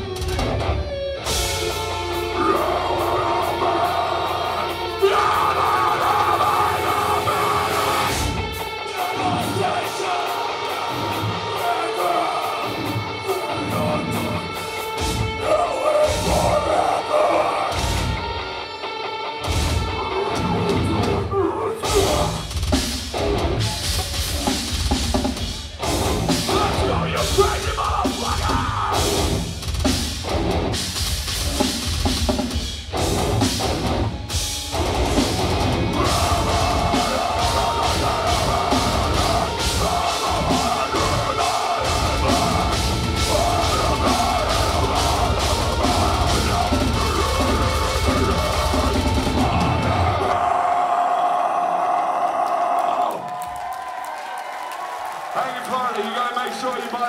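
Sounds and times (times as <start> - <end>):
heavy metal band playing: 0.0 - 53.0.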